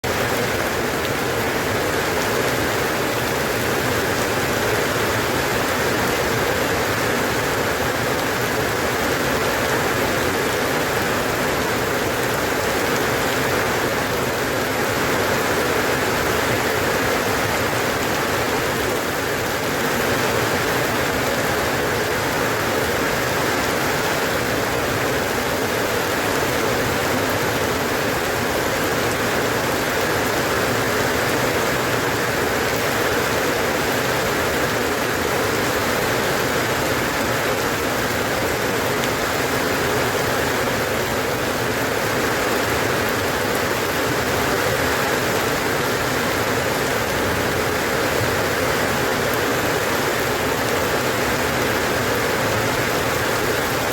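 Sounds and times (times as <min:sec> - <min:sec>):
rain pattering: 0:00.0 - 0:53.9.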